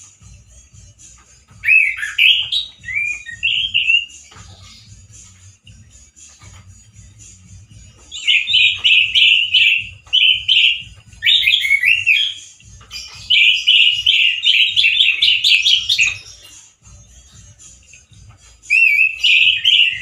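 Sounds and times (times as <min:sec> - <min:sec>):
thrush singing: 0:00.0 - 0:20.0.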